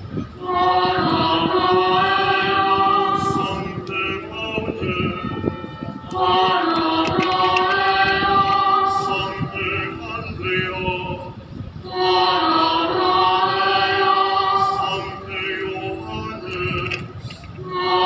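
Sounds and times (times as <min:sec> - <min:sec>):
choir singing a hymn: 0:00.2 - 0:18.0.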